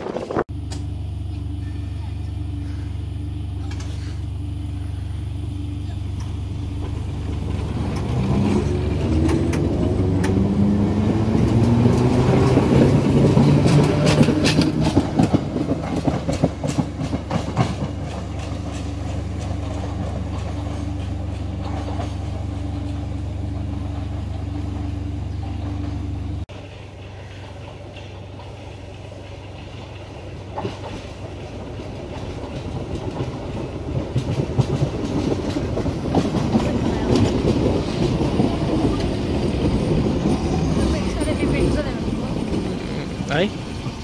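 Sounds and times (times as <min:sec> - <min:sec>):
electric train motors whining: 0:00.1 - 0:44.0
wheels clicking over rail joints: 0:06.0 - 0:44.0.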